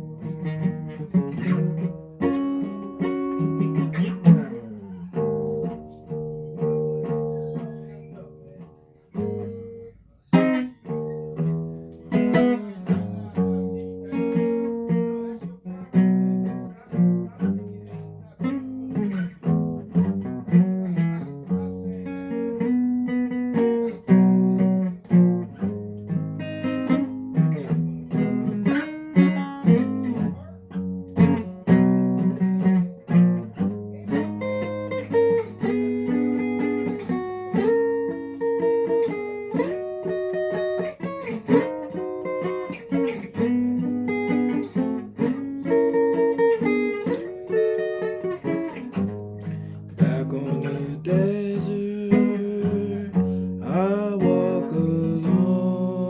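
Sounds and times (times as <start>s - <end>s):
guitar picked notes and chords: 0.0s - 56.0s.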